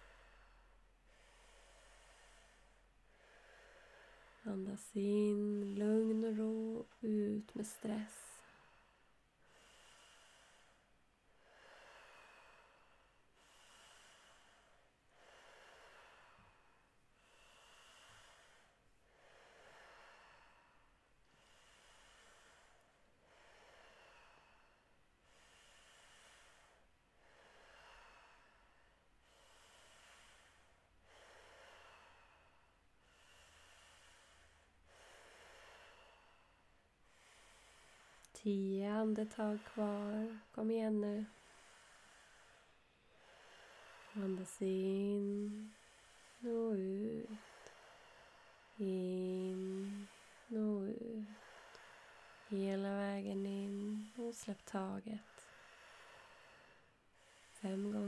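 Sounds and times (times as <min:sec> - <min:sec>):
deep rhythmic breathing: 0:00.0 - 0:58.0.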